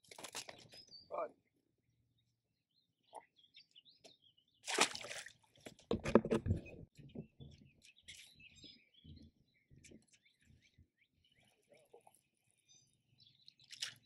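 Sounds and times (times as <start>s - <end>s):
small birds chirping: 0.2s - 5.7s, 6.4s - 14.0s.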